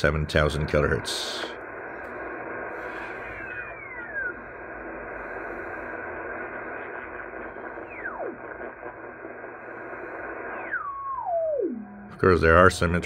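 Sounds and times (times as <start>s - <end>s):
shortwave radio band noise: 0.0s - 13.0s.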